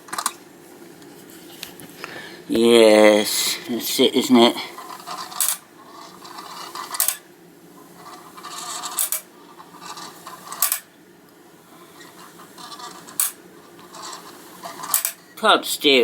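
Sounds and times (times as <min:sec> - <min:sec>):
clockwork motor whirring and rattling: 0:02.5 - 0:16.0.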